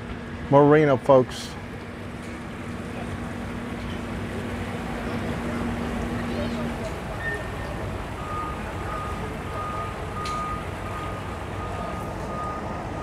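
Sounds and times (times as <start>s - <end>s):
engine rumble: 0.0s - 13.0s
outdoor noise: 0.0s - 13.0s.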